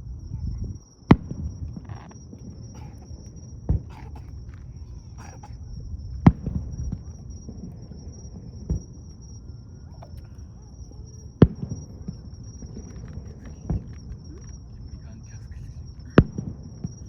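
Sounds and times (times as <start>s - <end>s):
steady low rumble: 0.0s - 17.0s
fireworks bangs: 1.1s - 9.5s, 10.5s - 17.0s.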